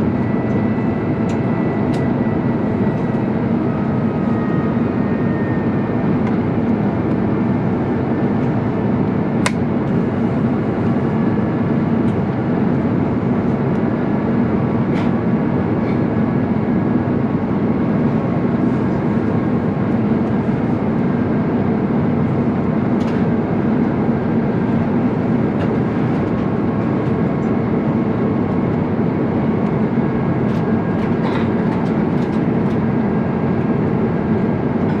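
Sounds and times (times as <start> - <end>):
airliner cabin engine noise: 0.0 - 35.0.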